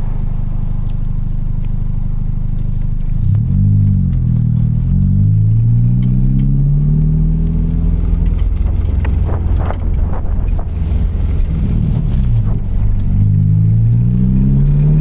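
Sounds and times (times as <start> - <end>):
car engine revving: 0.0 - 15.0
exhaust crackles: 0.0 - 15.0.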